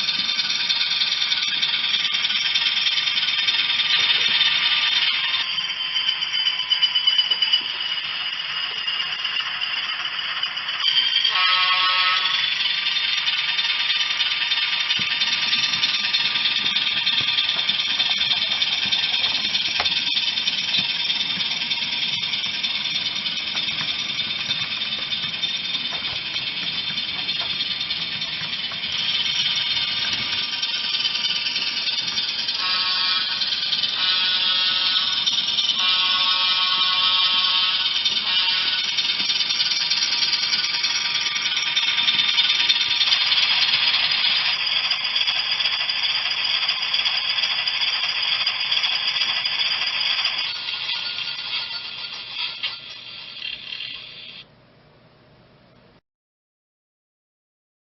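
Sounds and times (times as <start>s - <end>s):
model locomotive whir and rattle: 0.0s - 54.5s.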